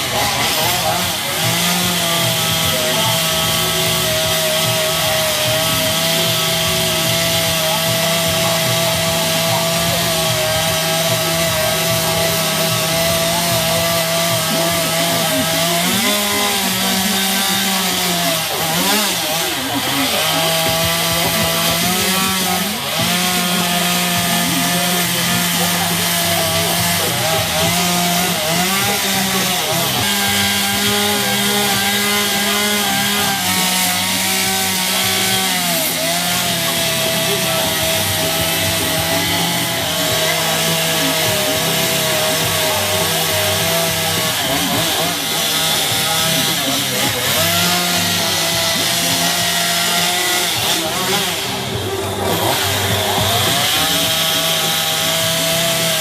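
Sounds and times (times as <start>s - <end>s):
chainsaw carving wood: 0.0s - 56.0s.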